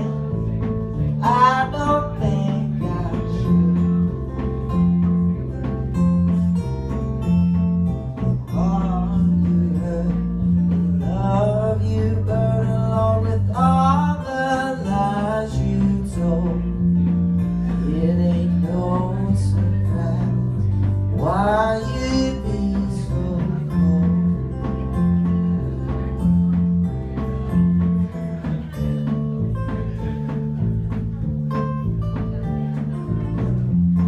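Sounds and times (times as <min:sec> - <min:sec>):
bass line: 0:00.0 - 0:34.0
bending lead guitar notes: 0:00.0 - 0:34.0
blues band playing: 0:00.0 - 0:34.0.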